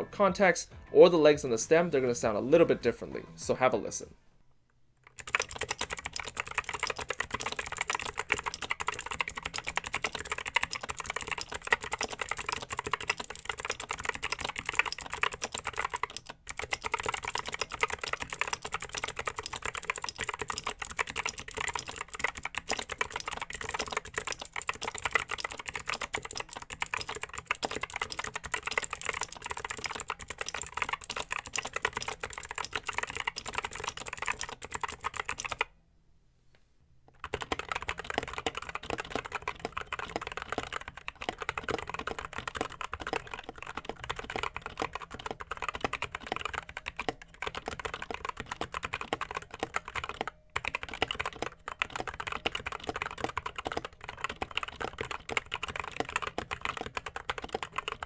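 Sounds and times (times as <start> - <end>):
fast typing on clicky keyboard: 5.0 - 35.7, 37.2 - 58.0.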